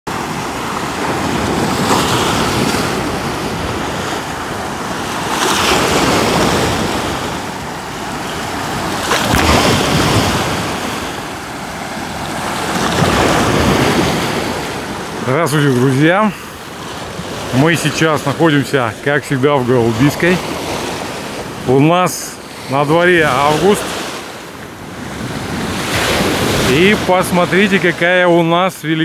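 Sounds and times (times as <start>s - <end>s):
waves washing onto shore: 0.1s - 29.0s.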